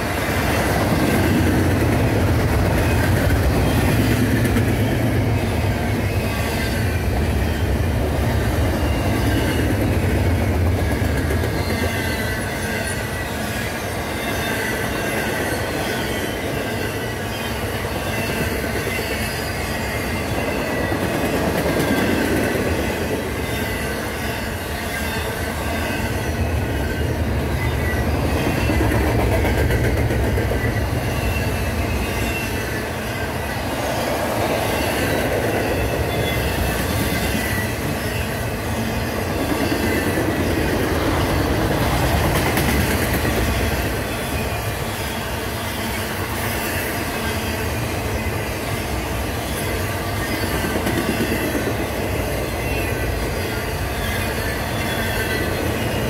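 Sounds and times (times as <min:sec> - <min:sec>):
freight train wheels clattering: 0:00.0 - 0:56.0
high wheel squeal: 0:02.6 - 0:29.4, 0:30.2 - 0:56.0.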